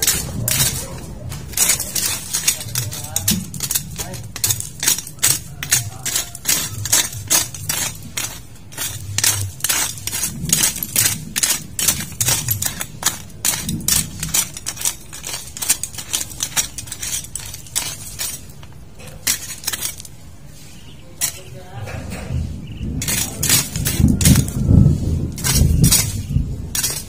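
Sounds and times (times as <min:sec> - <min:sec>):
hand weeding scraping strikes: 0:00.0 - 0:27.0.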